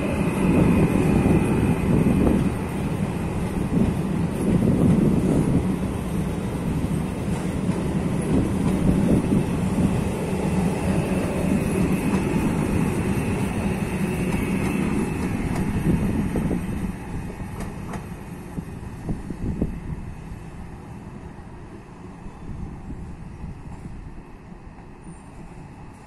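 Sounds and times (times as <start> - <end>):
rumble of train wheels: 0.0 - 26.0.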